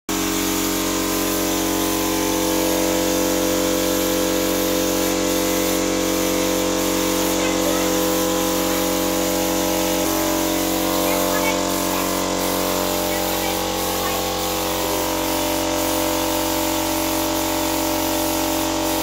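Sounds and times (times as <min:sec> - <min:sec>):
air compressor running: 0:00.1 - 0:19.0
hiss of air: 0:00.1 - 0:19.0.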